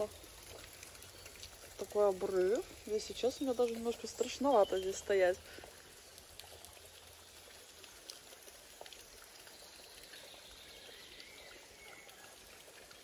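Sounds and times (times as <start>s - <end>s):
stream trickling over stones: 0.0s - 13.0s.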